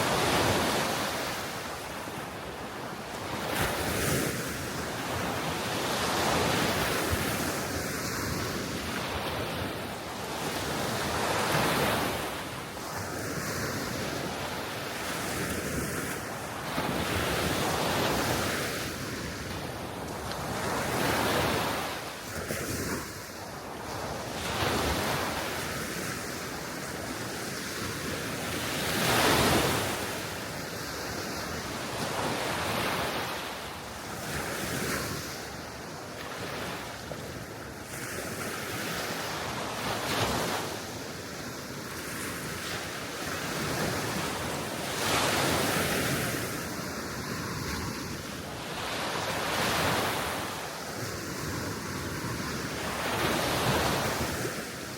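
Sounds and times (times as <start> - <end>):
waves washing onto shore: 0.0 - 54.9.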